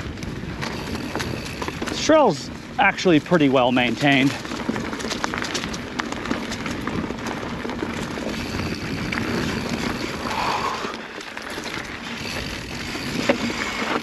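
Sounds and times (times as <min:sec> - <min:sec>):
bike rattles and clicks: 0:00.0 - 0:14.0.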